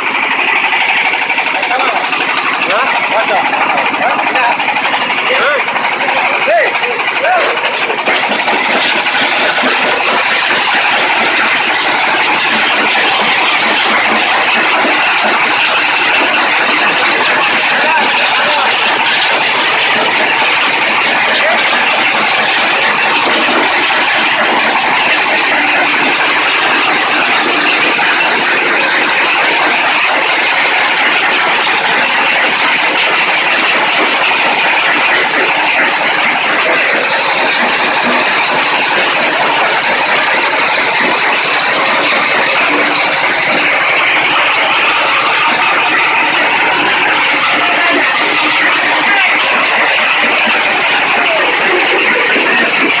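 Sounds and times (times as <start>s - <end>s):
stone crusher rattling: 0.0s - 53.0s.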